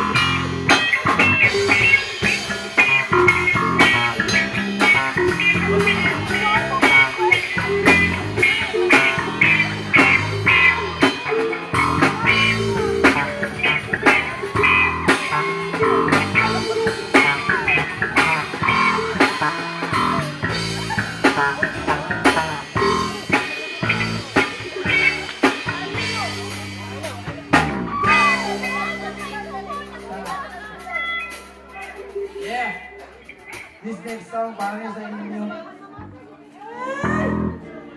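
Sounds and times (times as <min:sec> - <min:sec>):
drum kit beat: 0:00.0 - 0:34.8
bass: 0:00.0 - 0:37.9
guitar: 0:00.0 - 0:37.9.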